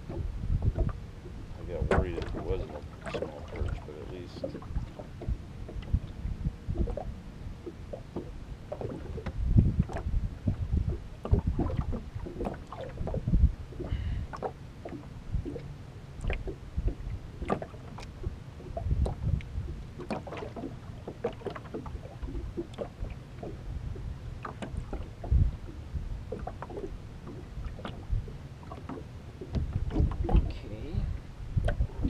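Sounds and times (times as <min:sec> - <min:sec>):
small waves lapping against hull: 0:00.0 - 0:32.0.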